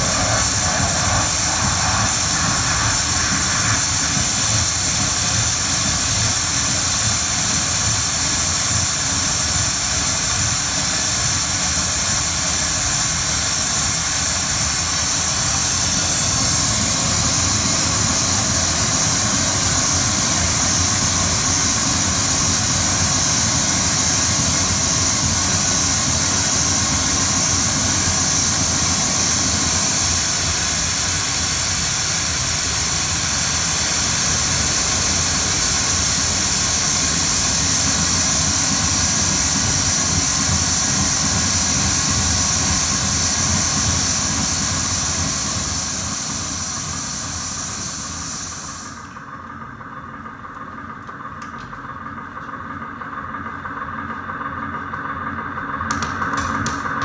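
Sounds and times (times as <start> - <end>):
high hiss: 0.0 - 49.4
industrial noise drone: 0.0 - 57.0.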